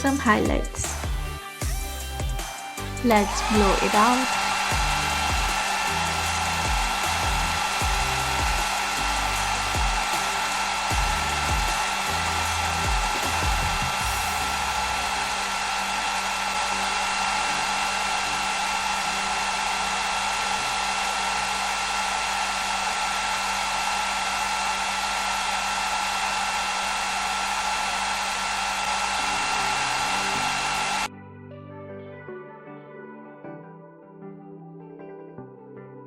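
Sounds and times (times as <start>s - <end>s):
hair dryer running: 0.0s - 31.1s.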